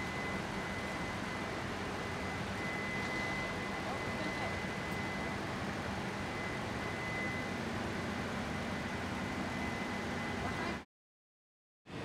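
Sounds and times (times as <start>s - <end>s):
machine hum with high whine: 0.0s - 10.8s.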